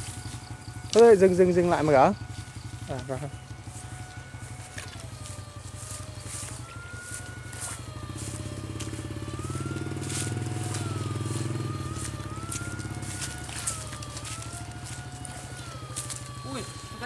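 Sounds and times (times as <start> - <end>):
electrofishing unit buzzing: 0.0 - 17.0
faint whine: 0.0 - 17.0.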